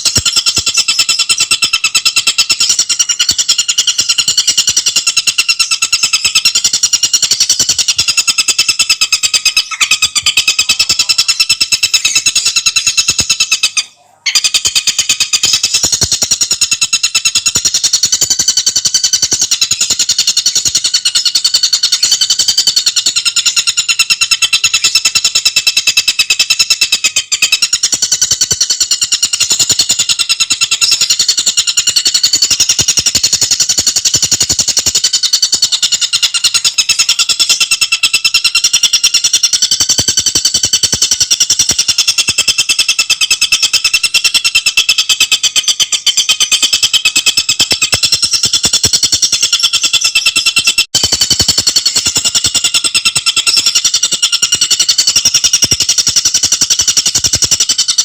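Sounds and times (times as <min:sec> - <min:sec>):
bird calling high-pitched trill: 0:00.0 - 0:58.0.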